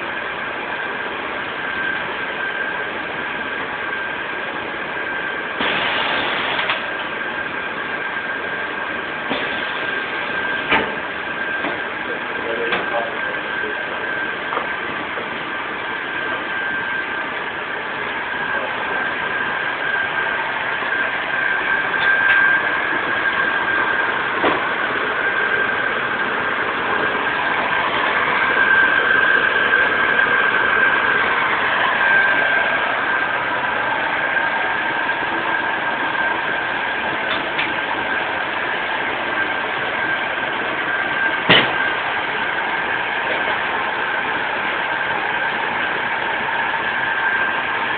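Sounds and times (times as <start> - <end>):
high whine: 0.0 - 47.9
packaging machine humming: 0.0 - 47.9.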